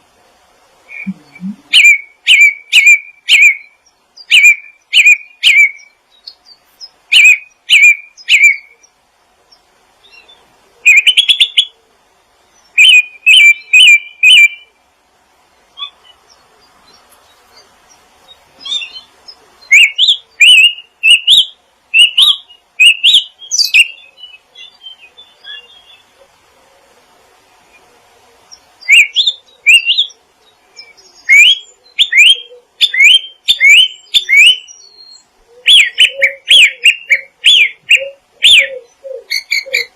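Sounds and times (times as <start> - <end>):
small songbirds chirping: 0.0 - 26.5, 27.2 - 39.9.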